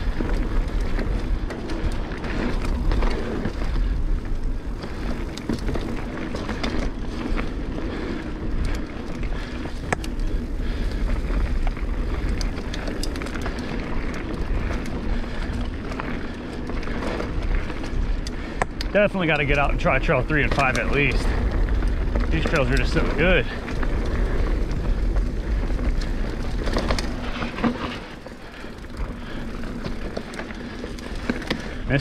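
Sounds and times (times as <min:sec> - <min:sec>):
bike clicks and rattles: 0:00.0 - 0:32.0
tyres rolling over dirt and stones: 0:00.0 - 0:32.0
wind rumble on microphone: 0:00.0 - 0:32.0.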